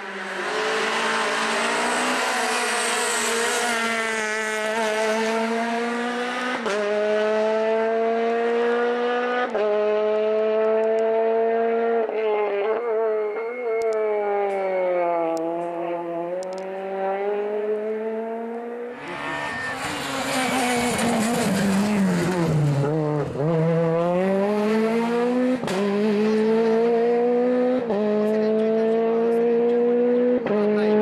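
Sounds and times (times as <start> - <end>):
rally car engine passing: 0.0 - 31.0.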